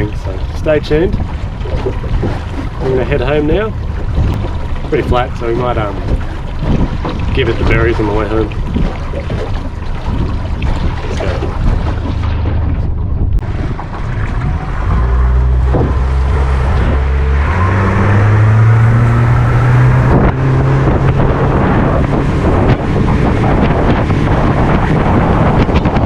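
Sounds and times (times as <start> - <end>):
outboard motor running at speed: 0.0 - 26.0
water rushing past hull: 0.0 - 26.0
wind buffeting microphone: 0.0 - 26.0.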